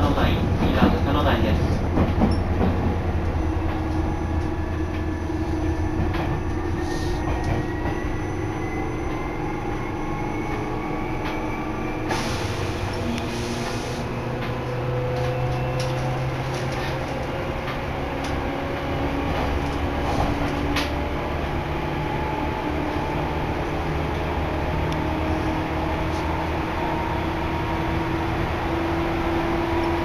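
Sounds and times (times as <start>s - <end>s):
train running noise: 0.0s - 30.0s.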